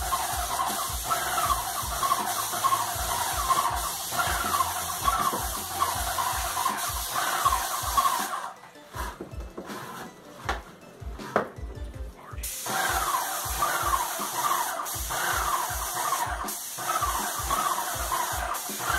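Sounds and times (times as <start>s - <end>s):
paint spraying hiss: 0.0s - 9.1s, 12.4s - 18.9s.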